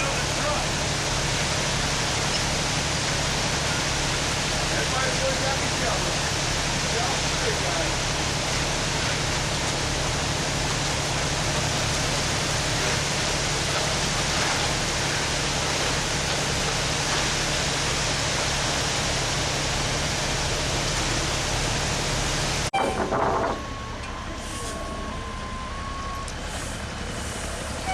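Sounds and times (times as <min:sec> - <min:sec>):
truck engine humming: 0:00.0 - 0:27.9.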